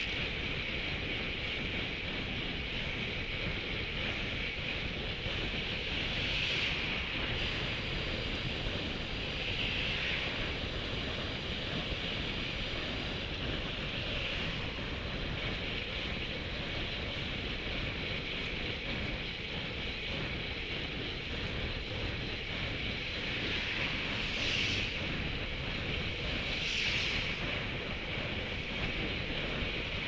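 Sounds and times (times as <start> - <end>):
wind noise on microphone: 0.0 - 30.0.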